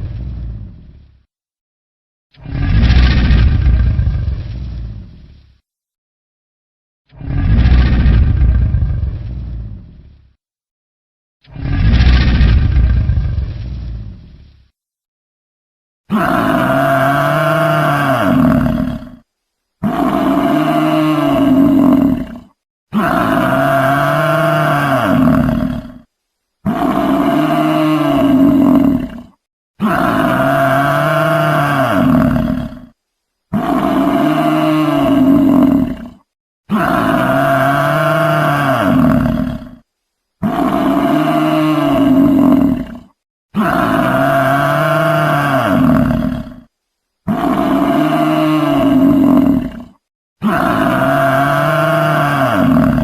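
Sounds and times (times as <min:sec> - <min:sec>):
wild animal roaring: 0:02.4 - 0:04.4, 0:07.1 - 0:09.9, 0:11.4 - 0:13.6, 0:16.1 - 0:53.0.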